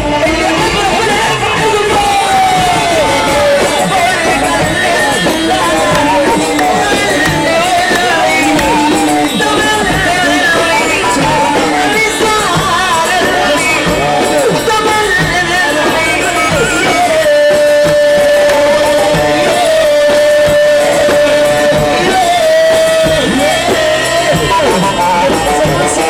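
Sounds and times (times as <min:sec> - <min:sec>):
musical accompaniment: 0:00.0 - 0:26.0
song with ornamented melody: 0:01.9 - 0:26.0.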